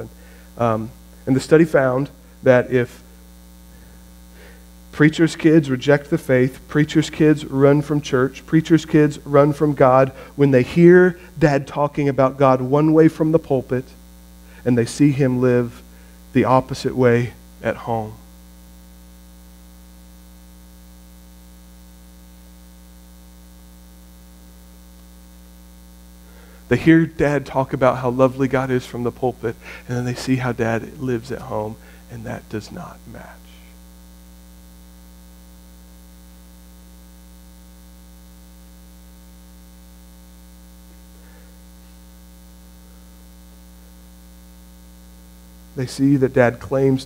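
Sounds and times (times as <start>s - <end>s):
electrical mains hum: 0.0s - 47.0s.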